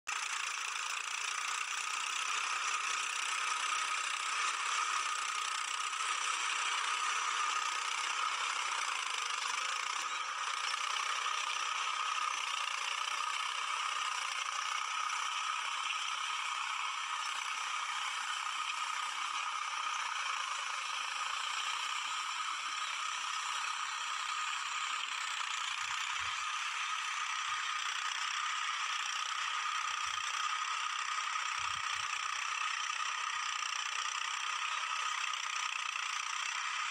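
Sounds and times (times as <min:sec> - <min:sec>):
tractor and implement rattling: 0:00.1 - 0:36.9
tractor diesel engine running: 0:00.1 - 0:36.9.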